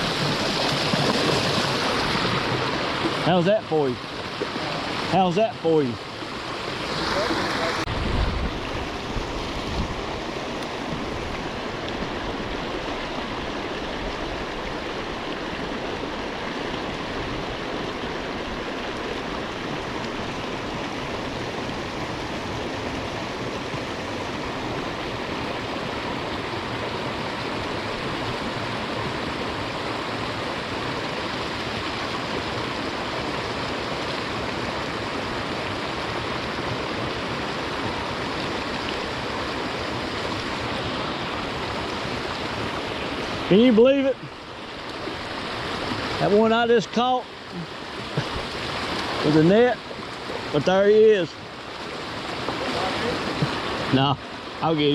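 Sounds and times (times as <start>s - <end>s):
creek water rushing: 0.0s - 54.9s.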